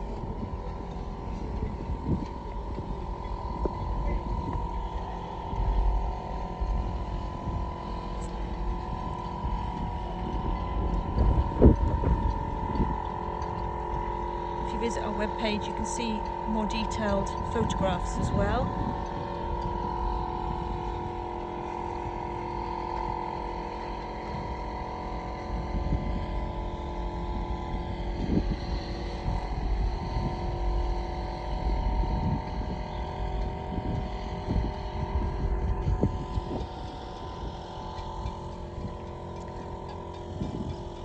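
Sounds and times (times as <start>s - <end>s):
boat engine running: 0.0s - 41.0s.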